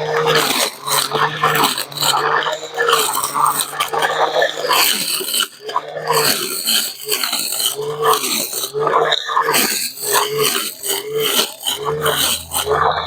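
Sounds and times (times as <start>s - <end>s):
brush cutter motor: 0.0s - 13.0s
grass rustling as cut: 0.0s - 13.0s.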